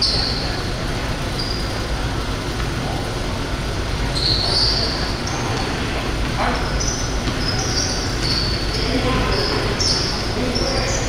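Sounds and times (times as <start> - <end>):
sneakers squeaking on gym floor: 0.0 - 2.8, 4.0 - 11.0.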